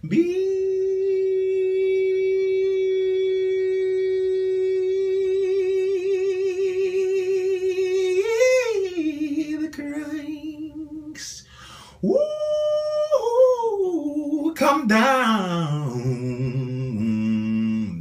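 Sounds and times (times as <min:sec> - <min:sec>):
man singing a cappella: 0:00.0 - 0:18.0.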